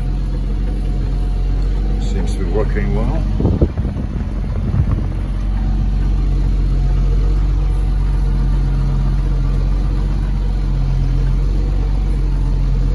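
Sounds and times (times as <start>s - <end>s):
tractor engine droning: 0.0s - 12.9s.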